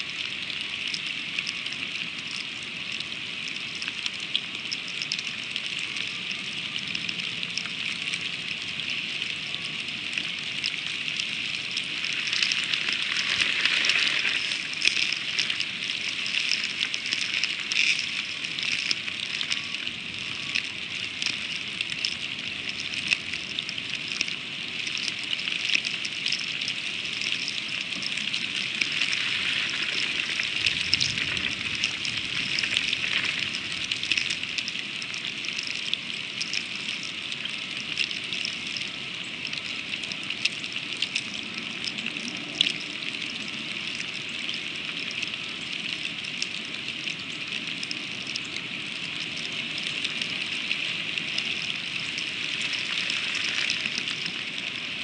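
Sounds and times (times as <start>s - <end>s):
freezing rain pattering on snow: 0.0s - 55.0s.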